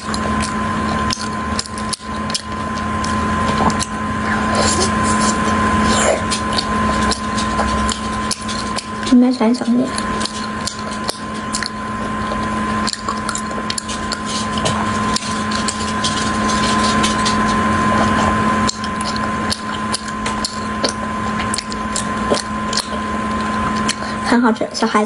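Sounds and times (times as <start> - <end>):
wet sticky chewing: 0.0 - 24.9
steady hiss and hum: 0.0 - 25.0.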